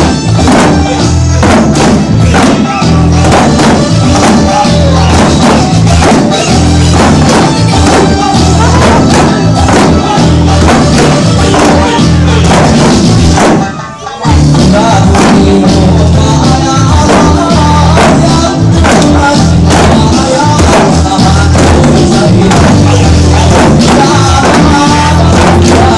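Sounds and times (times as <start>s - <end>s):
drum struck with sticks: 0.0s - 13.8s, 14.5s - 25.9s
hand drums beating: 0.0s - 25.9s
loud folk-song music: 0.0s - 25.9s.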